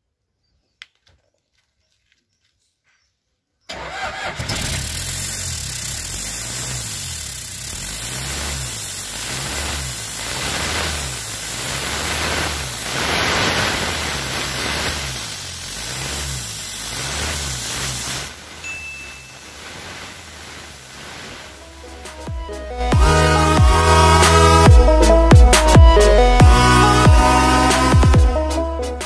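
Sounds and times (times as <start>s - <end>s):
hissing exhaust: 3.7s - 29.0s
car engine revving: 3.8s - 29.0s.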